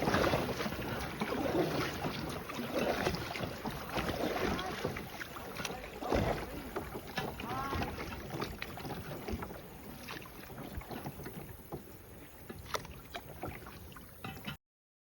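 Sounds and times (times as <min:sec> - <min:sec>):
water splashing around kayak: 0:00.0 - 0:14.6.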